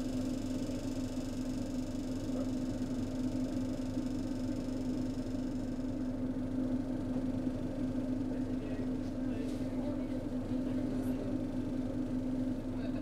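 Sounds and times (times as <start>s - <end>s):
train low hum and rumble: 0.0s - 13.0s.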